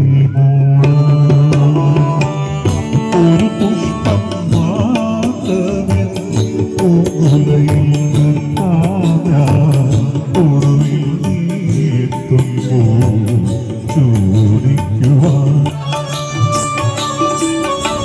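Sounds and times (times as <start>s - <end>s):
man singing into microphone: 0.0s - 18.0s
steady drum beat: 0.8s - 18.0s.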